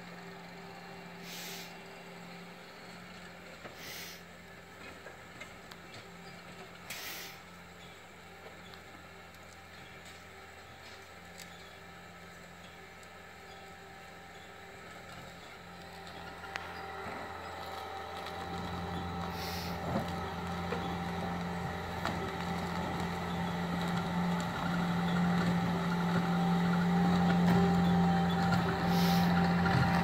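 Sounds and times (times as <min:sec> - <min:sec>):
truck engine humming: 0:00.0 - 0:30.0.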